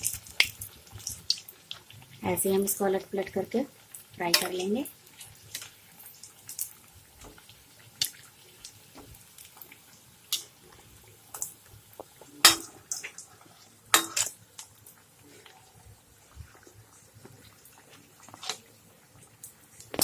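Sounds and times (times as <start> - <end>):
faint sizzle of frying: 0.0 - 20.0.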